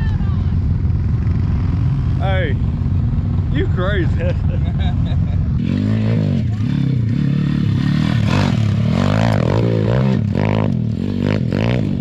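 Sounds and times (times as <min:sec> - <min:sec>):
pit bike engine revving: 0:01.1 - 0:12.0.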